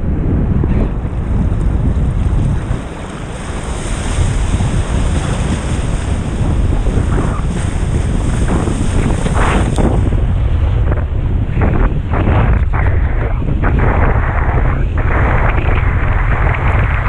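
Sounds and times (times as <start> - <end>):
sea water rushing: 0.0 - 17.0
wind buffeting microphone: 0.0 - 17.0.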